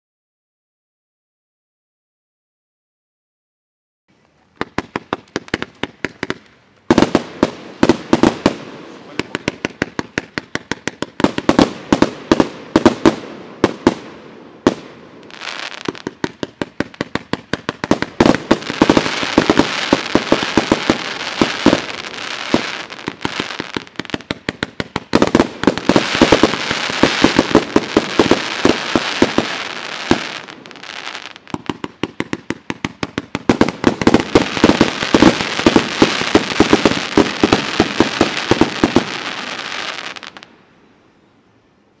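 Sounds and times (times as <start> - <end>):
hiss of burning fireworks: 4.1 - 40.6
firework barrage shots: 4.6 - 40.4.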